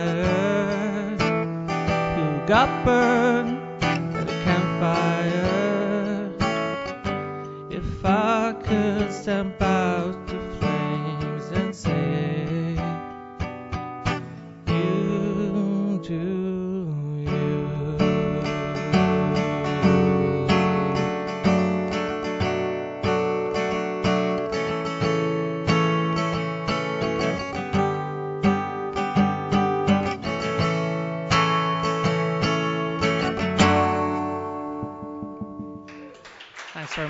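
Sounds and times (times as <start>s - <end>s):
acoustic guitar strumming: 0.0s - 36.5s.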